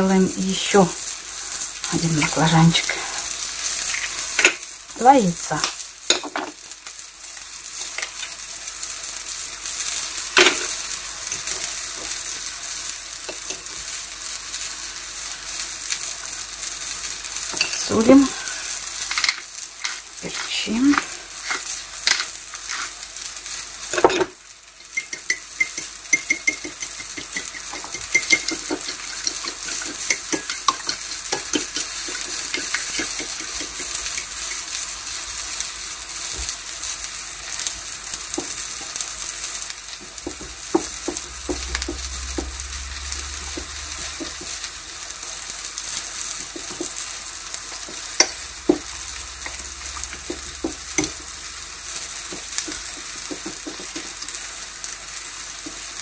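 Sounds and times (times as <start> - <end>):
eggplant sizzling in oil: 0.0 - 56.0.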